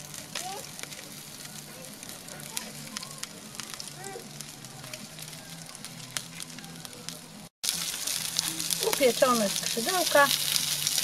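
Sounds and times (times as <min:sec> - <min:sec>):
chicken wings sizzling on grill: 0:00.0 - 0:11.0
fat crackling and popping: 0:00.0 - 0:11.0.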